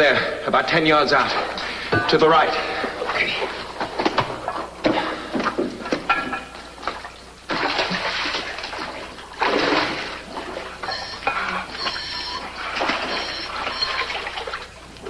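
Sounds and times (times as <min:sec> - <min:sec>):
water splashing and bubbling: 0:01.1 - 0:15.0.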